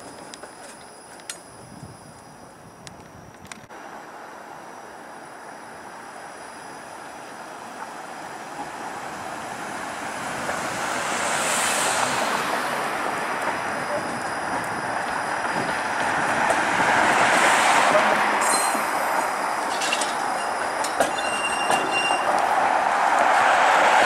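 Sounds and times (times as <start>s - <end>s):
streetcar wheels on rail: 0.0s - 24.0s.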